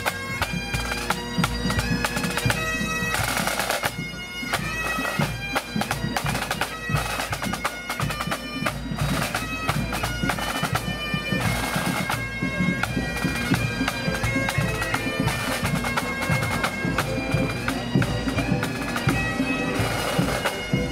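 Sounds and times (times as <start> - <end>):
bagpipes playing: 0.0 - 20.9.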